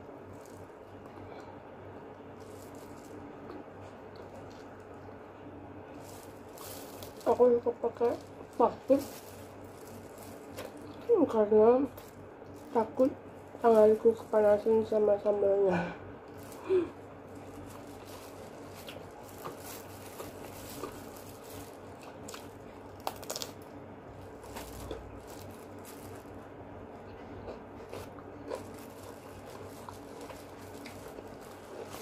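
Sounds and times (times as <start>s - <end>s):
faint steady hum: 0.0s - 32.0s
plastic glove crinkling: 0.0s - 32.0s
chewing crunches and mouth clicks: 0.1s - 5.2s, 5.9s - 11.1s, 16.2s - 32.0s.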